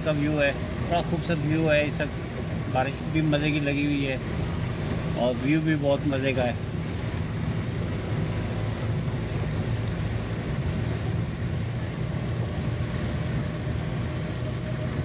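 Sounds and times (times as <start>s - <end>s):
car engine humming: 0.0s - 15.0s
tyre noise on wet road: 0.0s - 15.0s.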